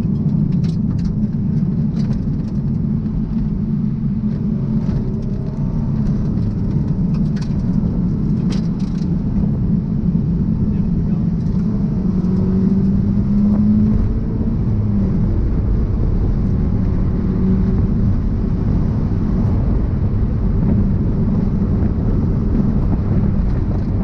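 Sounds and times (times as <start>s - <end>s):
car engine under load: 0.0s - 24.0s
road noise: 0.0s - 24.0s.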